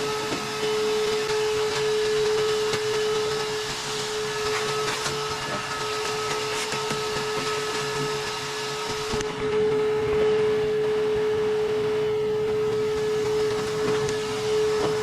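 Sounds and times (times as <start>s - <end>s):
vacuum cleaner hissing: 0.0s - 15.0s.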